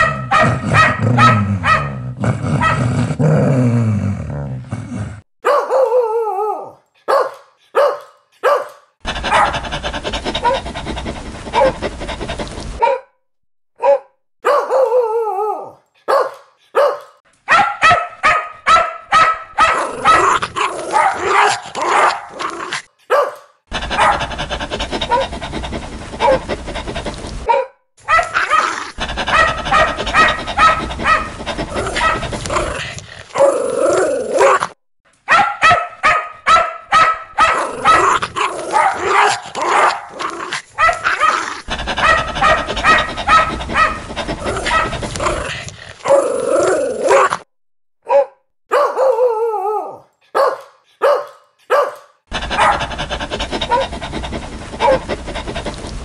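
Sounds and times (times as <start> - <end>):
dogs barking: 0.0 - 2.0, 5.4 - 6.1, 7.0 - 13.1, 13.8 - 15.0, 16.0 - 33.6, 35.3 - 46.2, 48.1 - 49.3, 50.3 - 56.0.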